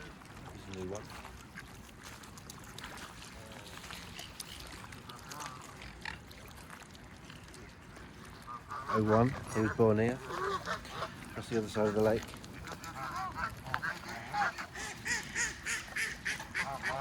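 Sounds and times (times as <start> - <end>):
waterfowl calls and grunts: 0.0 - 17.0.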